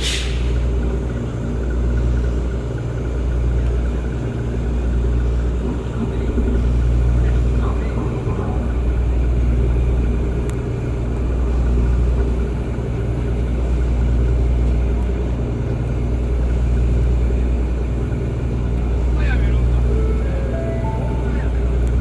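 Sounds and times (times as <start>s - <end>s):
ferry engines droning: 0.0s - 22.0s.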